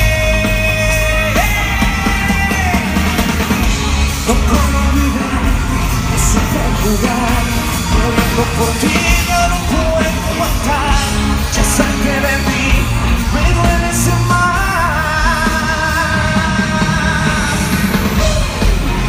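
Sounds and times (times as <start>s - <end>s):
live band playing loud music: 0.0s - 19.0s
person singing: 0.0s - 19.0s.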